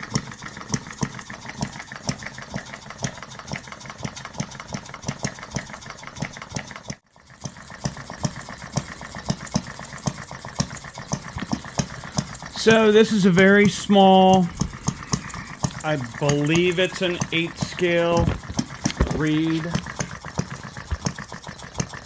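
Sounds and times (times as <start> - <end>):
model engine exhaust pops: 0.0 - 22.0.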